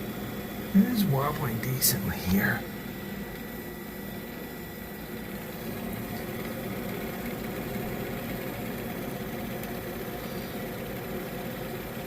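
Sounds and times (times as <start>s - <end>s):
fan motor hum with flutter: 0.0s - 12.0s.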